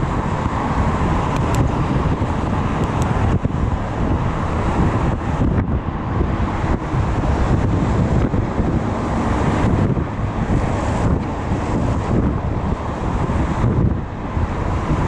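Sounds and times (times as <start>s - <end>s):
traffic noise: 0.0s - 15.0s
wind rumbling on microphone: 0.0s - 15.0s.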